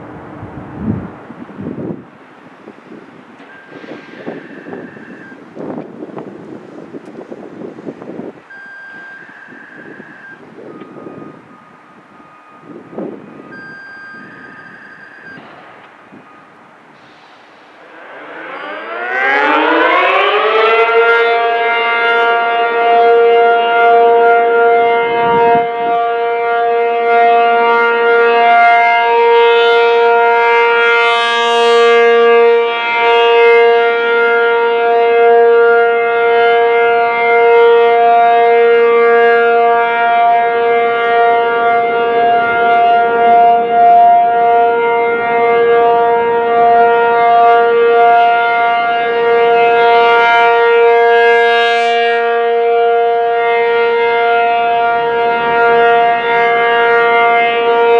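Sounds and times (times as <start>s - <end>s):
warning siren wind-up and steady tone: 0.0s - 57.9s.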